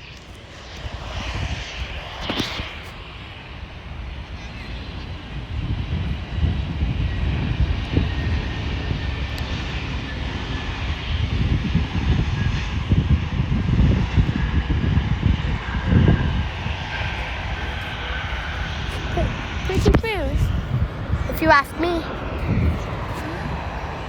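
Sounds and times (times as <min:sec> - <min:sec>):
jet engine rumble: 0:00.0 - 0:24.0
high engine whine: 0:00.1 - 0:24.0.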